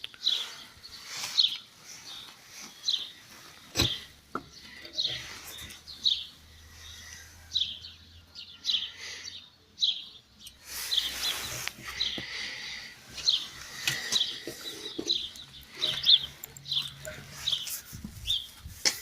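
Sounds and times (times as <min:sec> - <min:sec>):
small bird chirping: 0:00.0 - 0:18.6.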